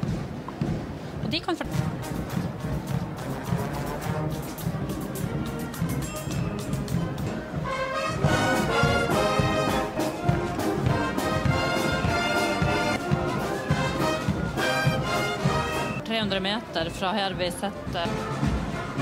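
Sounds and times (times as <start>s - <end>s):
low drum beat: 0.0s - 19.0s
marching band brass chords: 0.0s - 19.0s.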